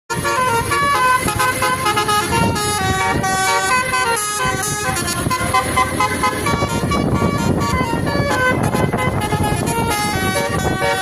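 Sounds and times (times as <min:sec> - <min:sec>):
bus multi-tone horn playing a tune: 0:00.1 - 0:11.0.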